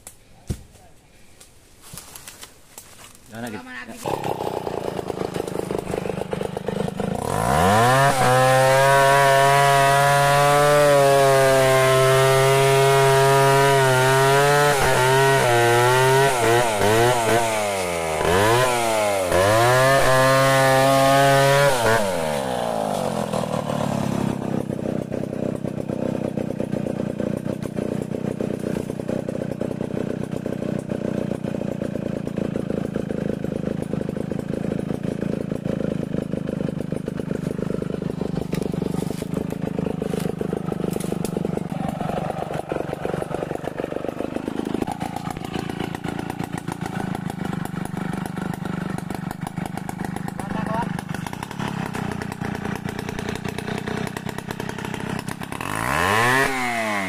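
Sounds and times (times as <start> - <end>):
chainsaw cutting through log: 2.2 - 57.0.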